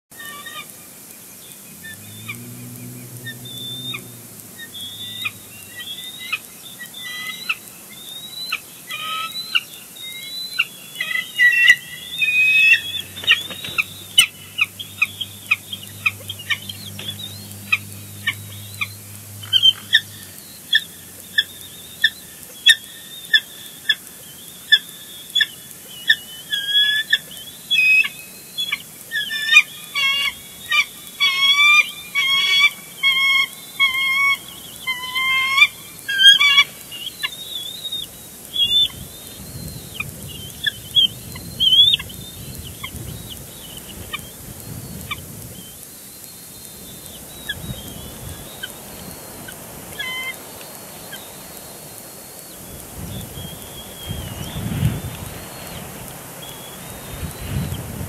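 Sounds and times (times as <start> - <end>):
eagles chirping calls: 0.2 - 58.0.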